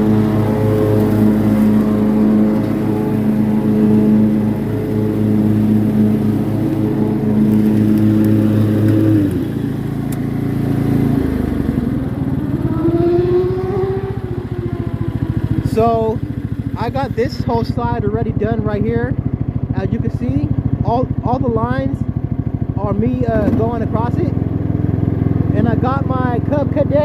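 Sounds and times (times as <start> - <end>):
riding lawn mower engine running: 0.0 - 27.0.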